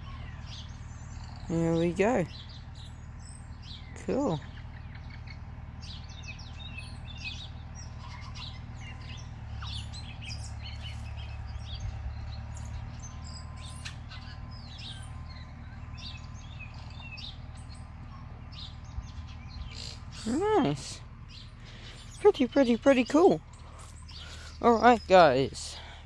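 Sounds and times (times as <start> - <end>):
low steady rumble: 0.0 - 26.0
small birds chirping: 0.0 - 26.0.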